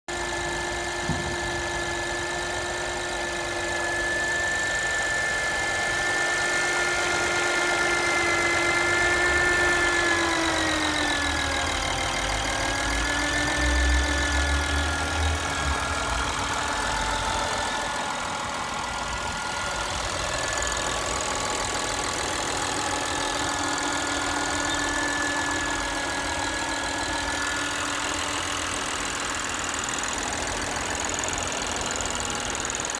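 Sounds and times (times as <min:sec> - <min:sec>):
car engine idling: 0:00.1 - 0:32.9.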